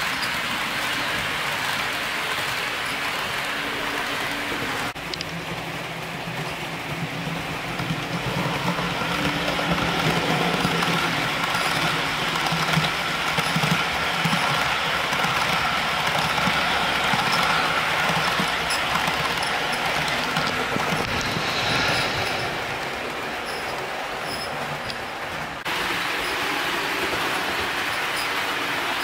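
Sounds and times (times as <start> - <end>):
model train wheels rolling on rails: 0.0 - 29.0.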